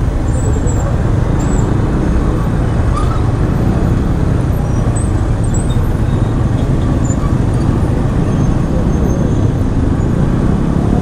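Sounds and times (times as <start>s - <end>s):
city traffic: 0.0s - 11.0s
motorcycle engine rumble: 0.0s - 11.0s.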